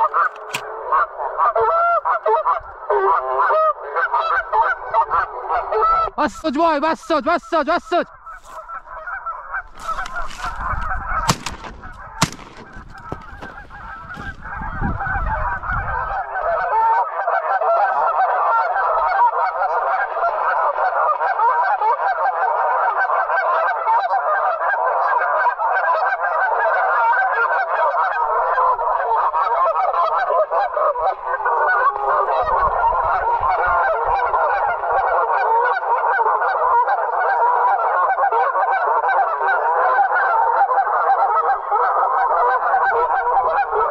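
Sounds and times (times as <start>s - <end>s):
geese honking: 0.0s - 43.9s.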